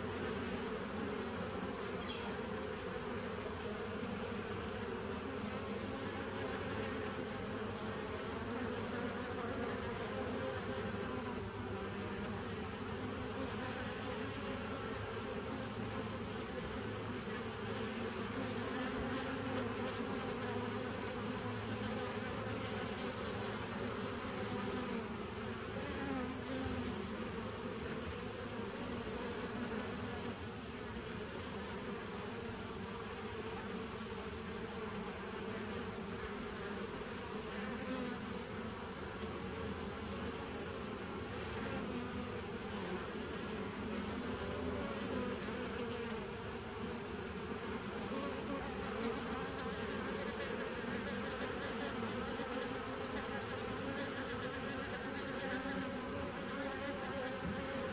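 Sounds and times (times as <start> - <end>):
honey bees buzzing: 0.0 - 57.9.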